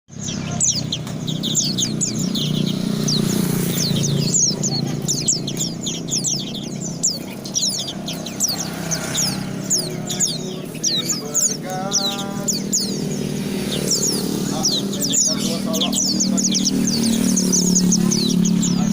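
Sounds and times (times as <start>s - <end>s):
bird chirping song: 0.1s - 18.9s.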